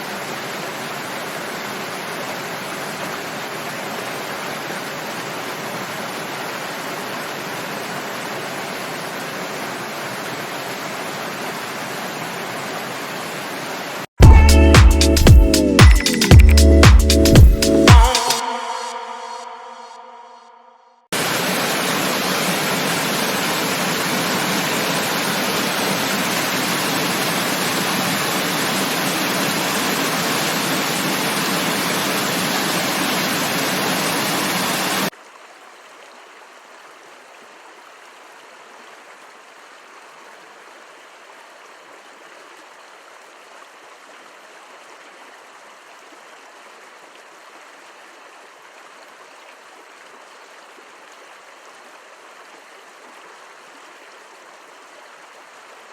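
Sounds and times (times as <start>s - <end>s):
stream flowing: 0.0s - 14.1s, 21.2s - 55.9s
water rushing: 0.0s - 19.3s, 21.2s - 55.9s.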